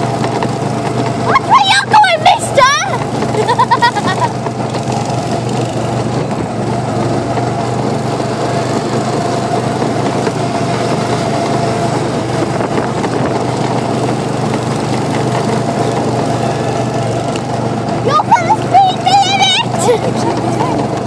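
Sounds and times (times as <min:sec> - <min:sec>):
go-kart engine droning: 0:00.0 - 0:21.0.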